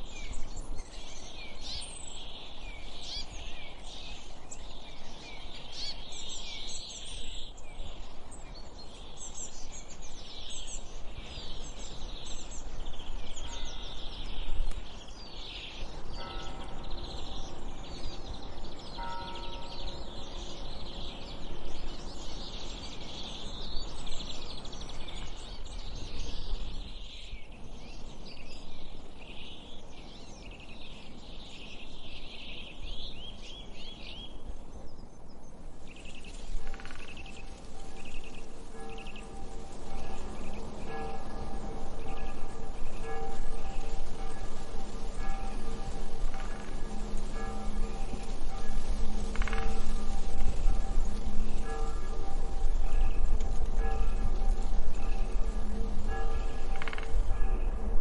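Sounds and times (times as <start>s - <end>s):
small birds chirping: 0.0s - 57.8s.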